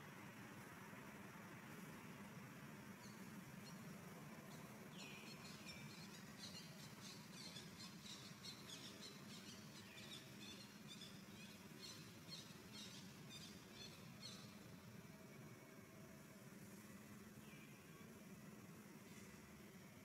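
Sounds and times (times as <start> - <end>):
low background hum: 0.0 - 20.0
faint birds chirping: 1.8 - 20.0.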